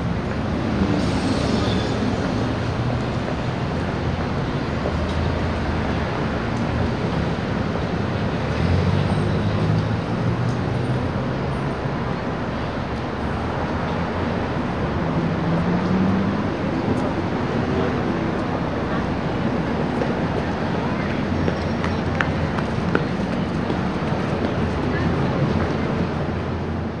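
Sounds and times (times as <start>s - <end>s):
city traffic: 0.0s - 27.0s
heavy vehicle rumble: 0.0s - 27.0s.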